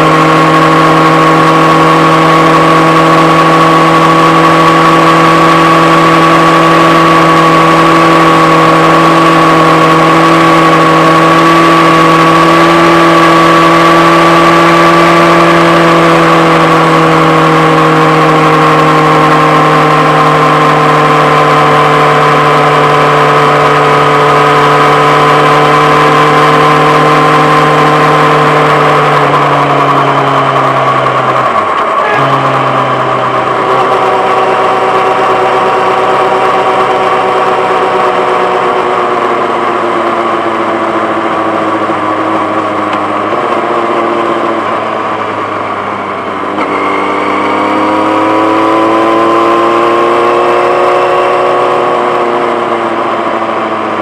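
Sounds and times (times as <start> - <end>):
motorcycle engine running loud: 0.0 - 54.0.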